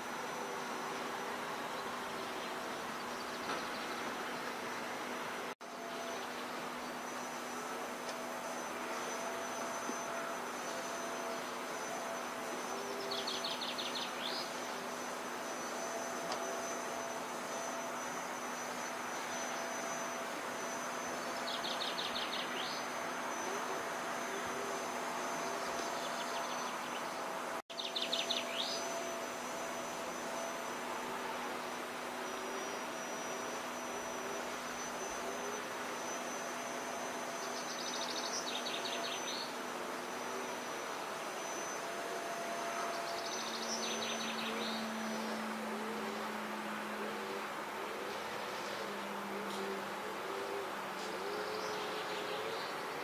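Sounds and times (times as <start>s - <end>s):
faint hum: 0.0s - 53.0s
steady hiss: 0.0s - 53.0s.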